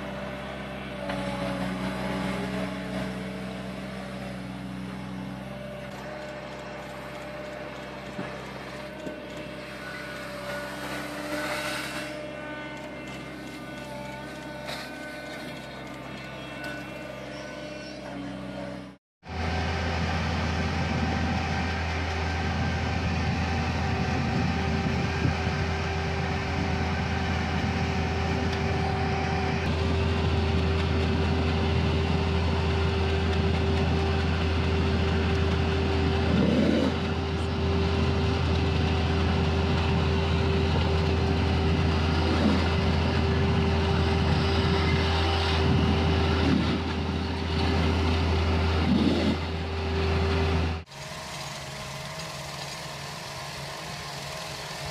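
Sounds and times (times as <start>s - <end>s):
dredge engine droning: 0.0s - 54.9s.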